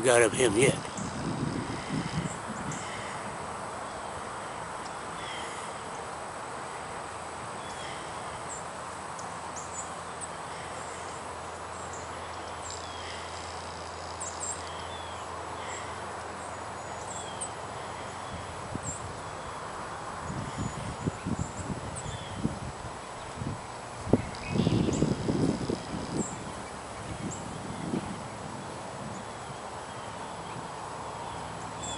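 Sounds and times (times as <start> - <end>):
distant small birds chirping: 0.0 - 31.9
steady outdoor hiss: 0.0 - 31.9.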